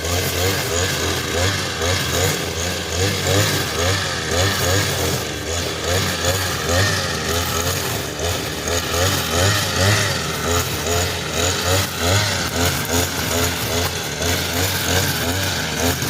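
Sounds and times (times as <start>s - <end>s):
brush cutter engine running: 0.0s - 16.0s.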